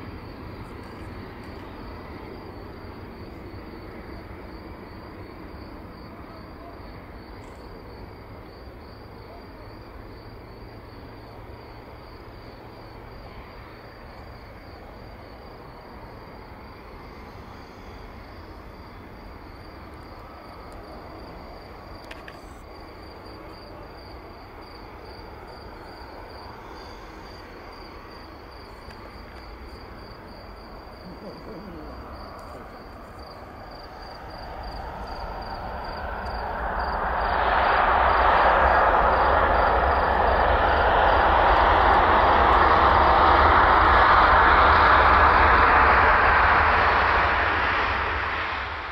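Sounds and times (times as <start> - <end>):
insect chirping trill: 0.0 - 48.0
jet engines rumbling: 0.0 - 48.9.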